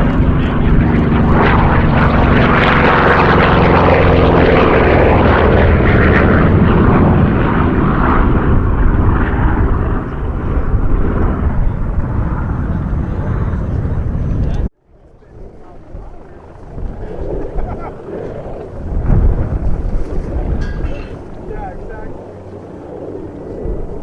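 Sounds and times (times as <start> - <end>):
aircraft flying overhead: 0.0 - 24.0.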